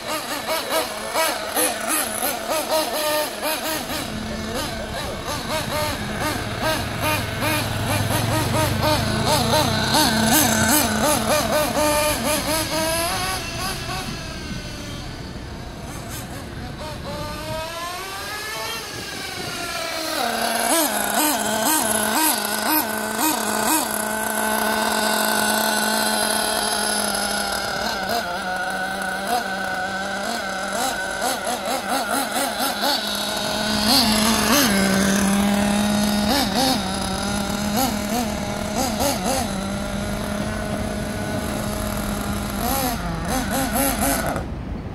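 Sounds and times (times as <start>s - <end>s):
model buggy engine revving: 0.0s - 44.9s.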